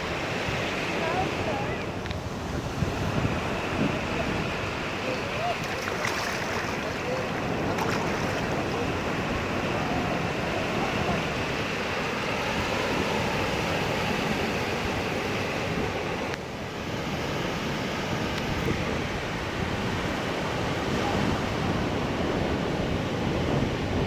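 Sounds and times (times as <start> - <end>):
sea surf washing on beach: 0.0 - 24.0
wind on microphone: 0.0 - 24.0.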